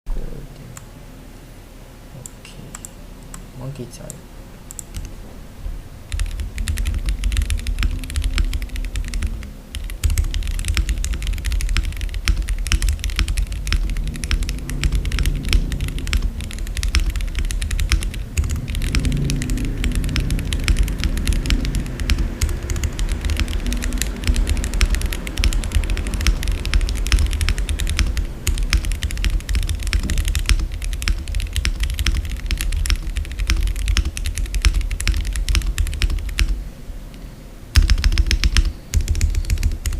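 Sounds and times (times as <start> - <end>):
fast mechanical keyboard typing: 4.7 - 5.1, 6.1 - 36.6, 37.7 - 39.9.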